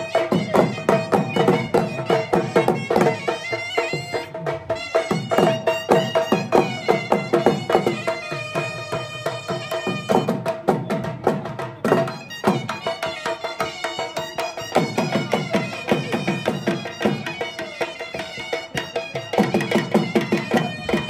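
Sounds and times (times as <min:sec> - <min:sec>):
drum beating a quick rhythm: 0:00.0 - 0:21.0.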